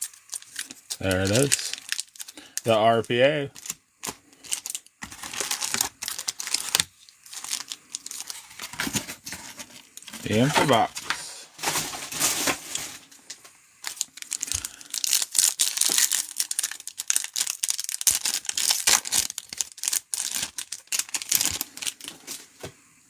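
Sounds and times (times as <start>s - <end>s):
wrapper tearing and crinkling: 0.0s - 13.1s, 13.8s - 22.4s.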